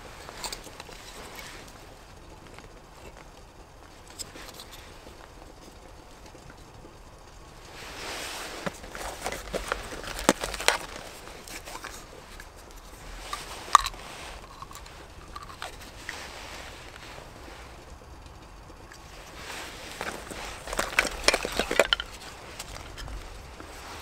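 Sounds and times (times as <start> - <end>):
crunching and rustling: 0.0 - 24.0.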